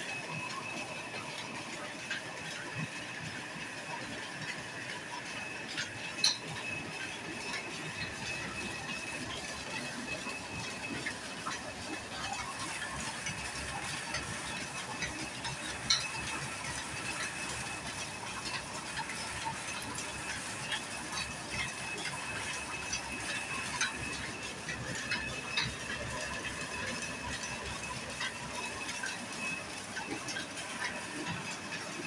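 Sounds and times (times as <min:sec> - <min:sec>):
high machine whine: 0:00.0 - 0:32.0.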